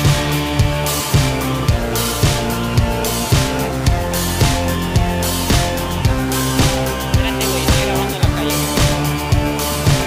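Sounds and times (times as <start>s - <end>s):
rock background music: 0.0s - 10.0s.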